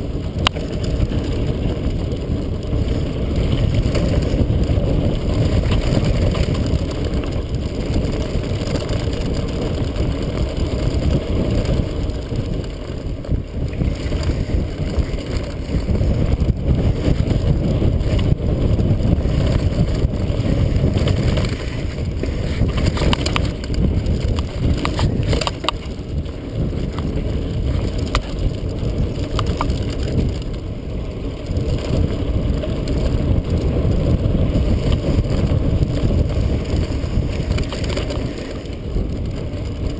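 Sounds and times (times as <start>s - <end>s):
bike rattling and clicking: 0.0s - 39.9s
bike tyres rolling on dirt: 0.0s - 39.9s
wind rumble on microphone: 0.0s - 39.9s.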